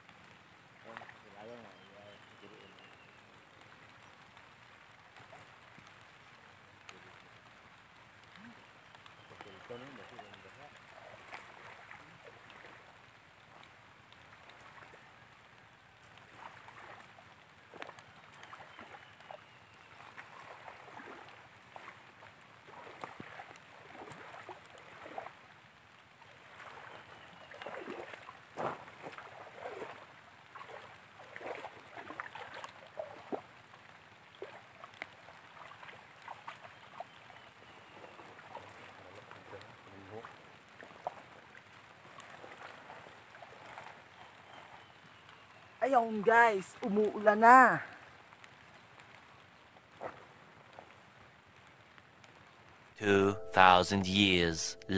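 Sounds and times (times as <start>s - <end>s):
muddy water splashing: 0.1s - 52.5s.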